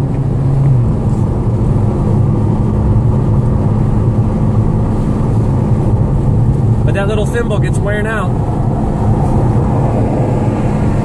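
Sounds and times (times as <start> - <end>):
car engine drone from inside: 0.0 - 11.0
tyre and road noise: 0.0 - 11.0.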